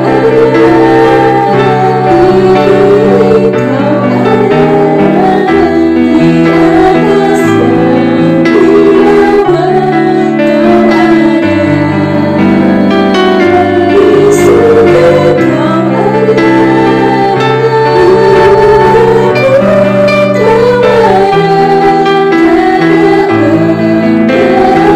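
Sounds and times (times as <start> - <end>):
worship song with singing: 0.0 - 24.9.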